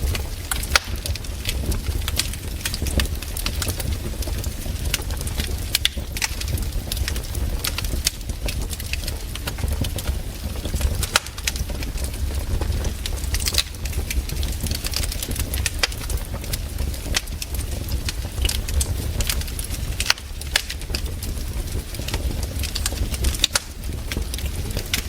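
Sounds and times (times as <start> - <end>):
campfire crackling and popping: 0.0 - 25.0
low fire rumble: 0.0 - 25.0.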